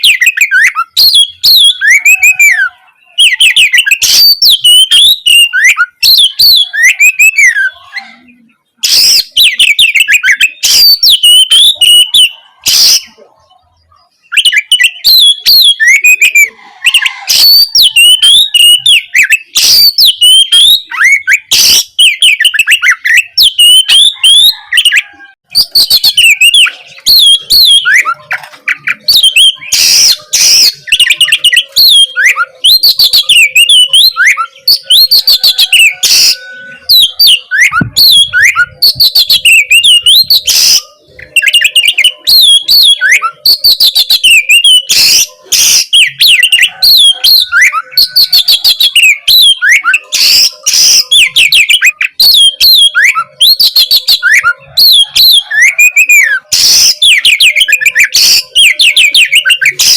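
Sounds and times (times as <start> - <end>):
bird singing whistled phrases: 0.0 - 59.9.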